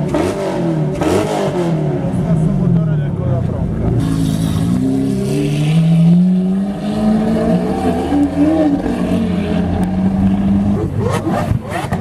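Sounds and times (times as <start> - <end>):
supercar engine revving: 0.0 - 12.0.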